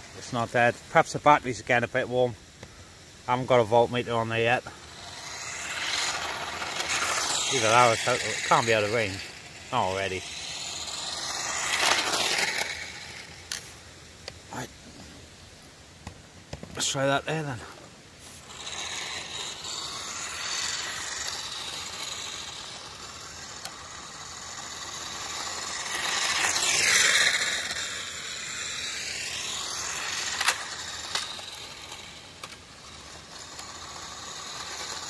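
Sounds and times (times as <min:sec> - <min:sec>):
rc car motor whining: 0:00.0 - 0:15.2, 0:16.7 - 0:35.0.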